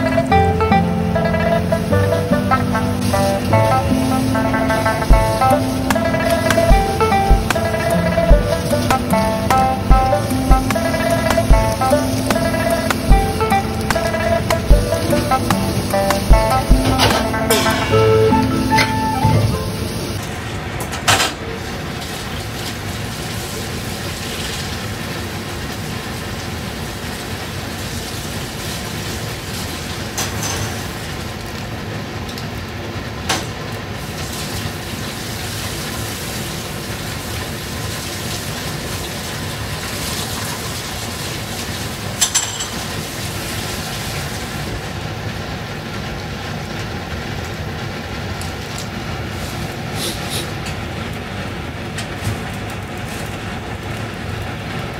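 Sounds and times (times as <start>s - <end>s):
gas burner noise: 0.0s - 54.9s.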